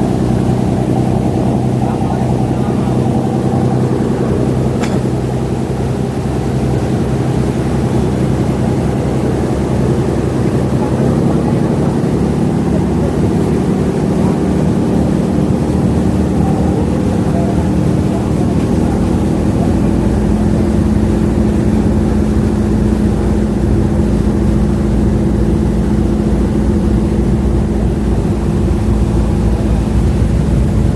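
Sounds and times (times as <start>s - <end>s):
ferry engines droning: 0.0s - 30.9s.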